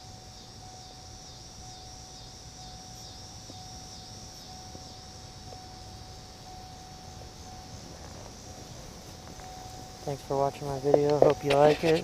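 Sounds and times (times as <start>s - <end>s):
faint steady hum: 0.0s - 12.0s
insects chirping: 0.0s - 12.0s.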